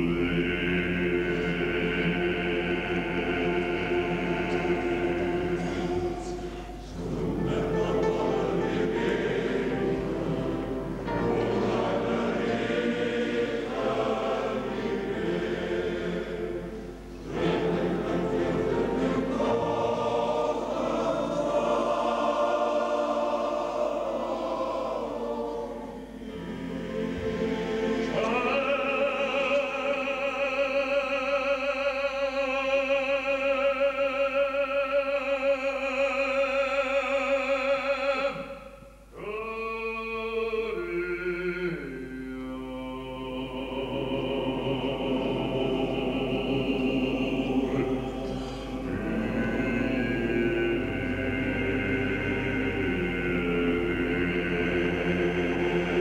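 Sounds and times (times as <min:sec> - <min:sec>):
male choir singing: 0:00.0 - 0:56.0.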